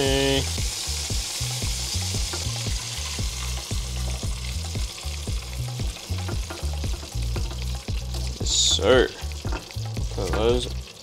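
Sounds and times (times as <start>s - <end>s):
low rhythmic beat: 0.0s - 11.0s
oil sizzling: 0.0s - 11.0s.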